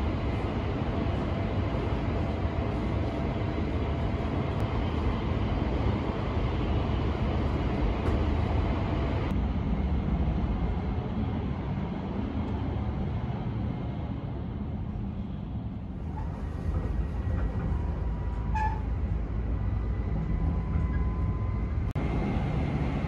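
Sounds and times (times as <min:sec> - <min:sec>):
train running rumble and hiss: 0:00.0 - 0:23.0.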